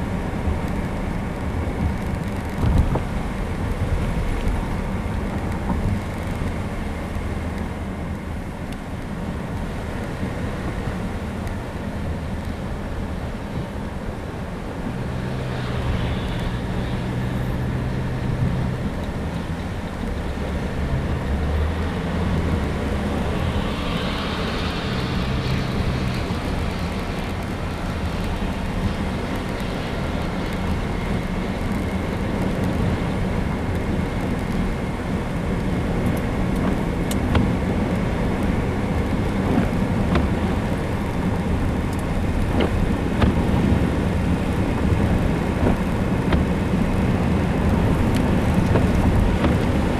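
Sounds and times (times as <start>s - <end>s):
road and wind noise: 0.0s - 49.9s
vehicle engine humming: 0.0s - 49.9s.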